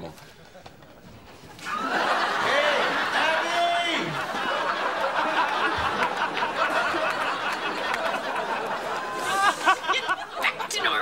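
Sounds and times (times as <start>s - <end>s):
audience laughing: 1.6s - 11.0s.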